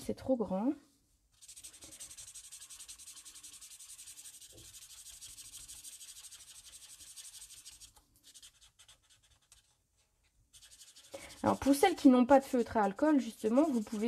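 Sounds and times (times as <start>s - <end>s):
marker scrubbing on cardstock: 1.4s - 14.0s.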